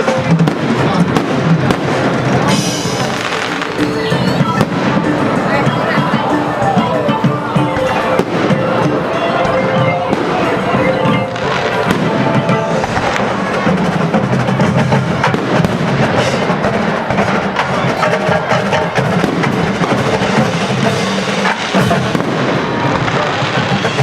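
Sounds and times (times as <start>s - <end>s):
drum and bugle corps playing: 0.0s - 24.0s
rapid drum strikes: 0.0s - 24.0s.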